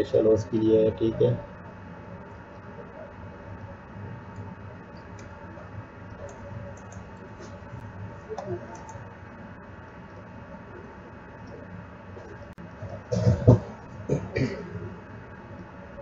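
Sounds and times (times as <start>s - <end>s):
room noise hum: 0.0s - 16.0s.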